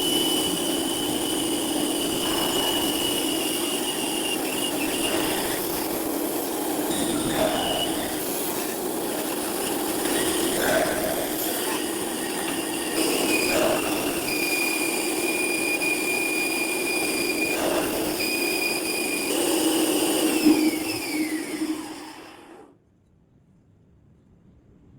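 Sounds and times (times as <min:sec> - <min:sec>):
bandsaw cutting wood: 0:00.0 - 0:22.6.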